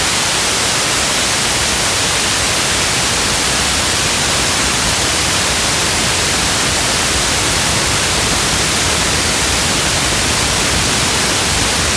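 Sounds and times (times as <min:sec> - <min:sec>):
steady rain hiss: 0:00.0 - 0:11.9.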